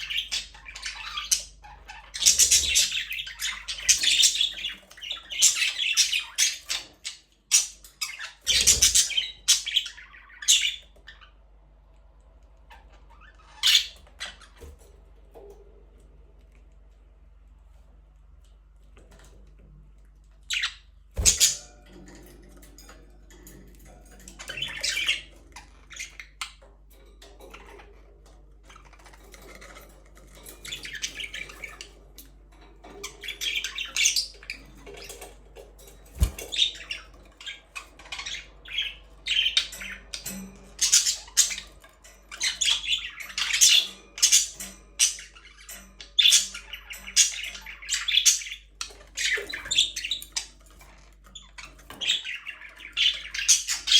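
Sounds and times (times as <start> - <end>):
budgerigars chirping and chattering: 0.0 - 11.6, 12.6 - 14.9, 20.3 - 53.9.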